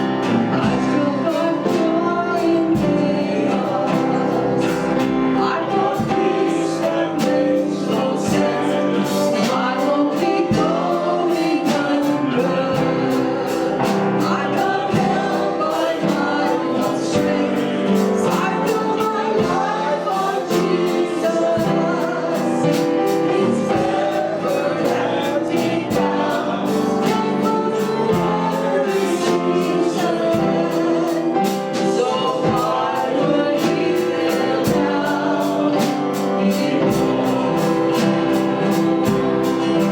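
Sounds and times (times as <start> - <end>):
congregation singing: 0.0 - 39.9
instrumental backing with beat: 0.0 - 39.9.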